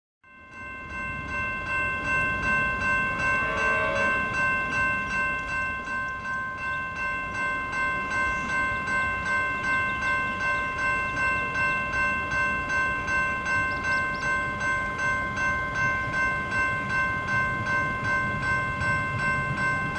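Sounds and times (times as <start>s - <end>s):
level crossing bell ringing: 0.2s - 19.9s.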